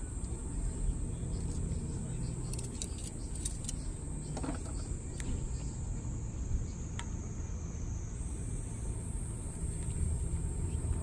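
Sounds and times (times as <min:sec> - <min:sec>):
insects droning: 0:00.0 - 0:11.0
low outdoor rumble: 0:00.0 - 0:11.0.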